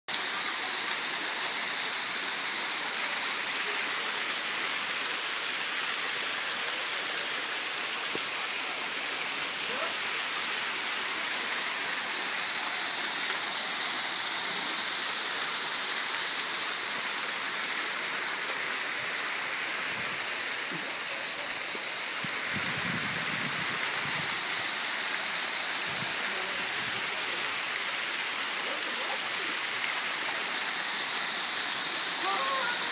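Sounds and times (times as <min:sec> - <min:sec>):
waterfall falling onto rocks: 0:00.1 - 0:32.9.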